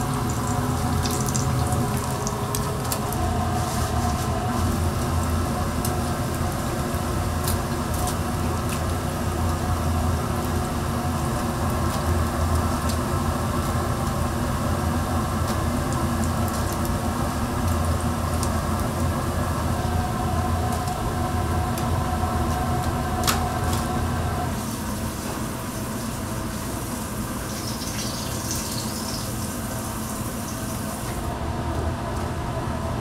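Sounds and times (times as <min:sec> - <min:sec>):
low hum and rumble: 0:00.0 - 0:33.0.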